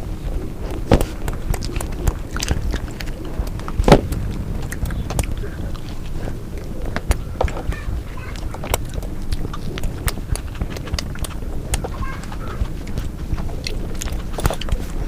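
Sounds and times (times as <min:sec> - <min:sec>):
chewing crunchy food: 0:00.0 - 0:15.0
low rumble: 0:00.0 - 0:15.0.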